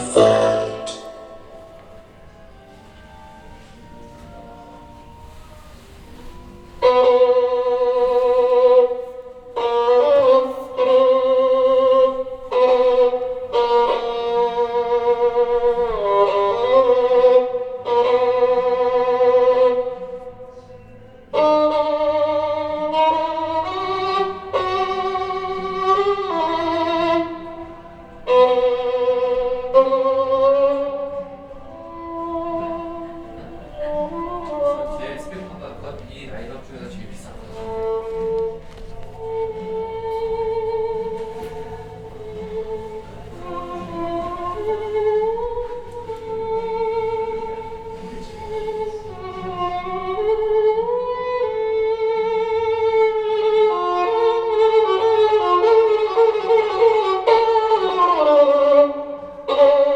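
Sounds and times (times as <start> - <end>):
violin music over loudspeakers: 0.0 - 59.9.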